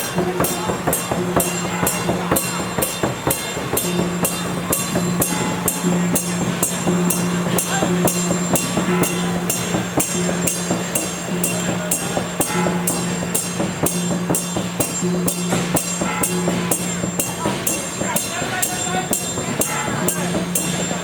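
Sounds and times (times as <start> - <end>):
held low tone: 0.0 - 18.1
cymbals clashing: 0.0 - 21.0
drums: 0.0 - 21.0.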